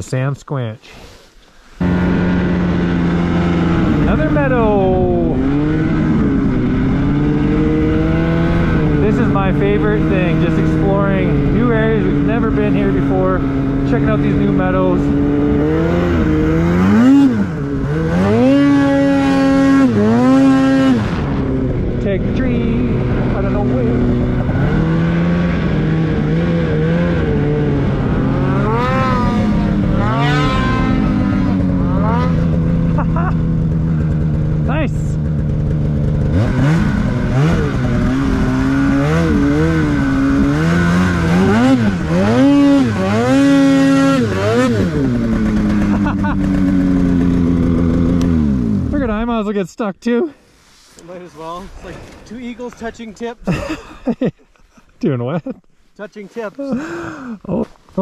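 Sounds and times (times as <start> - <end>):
snowmobile engine revving: 1.8 - 58.0.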